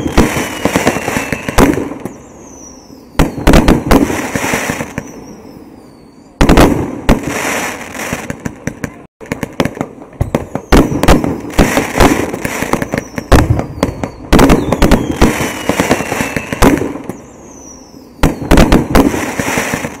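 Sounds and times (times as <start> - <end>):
fireworks bangs with crackling: 0.0 - 5.6, 6.4 - 20.0
whistling rockets: 0.0 - 20.0.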